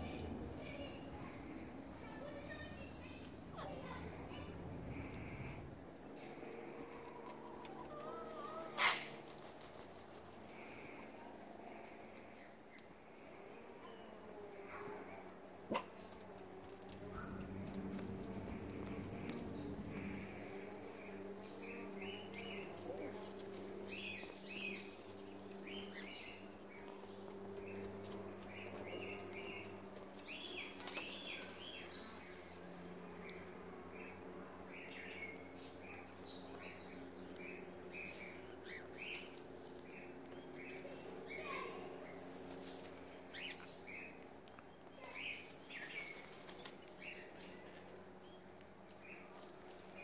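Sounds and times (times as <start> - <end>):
wings fluttering: 0.0 - 12.4, 15.7 - 34.2, 37.0 - 48.0
steady low hum: 0.0 - 50.0.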